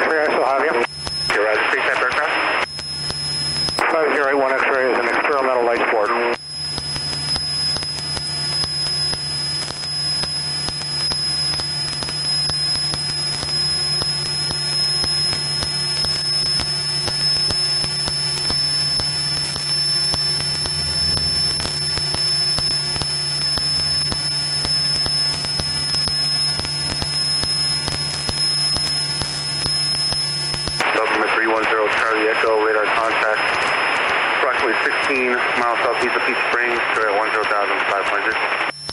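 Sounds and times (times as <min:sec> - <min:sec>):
high-pitched whine: 0:00.0 - 0:38.9
static crackles: 0:00.0 - 0:38.9.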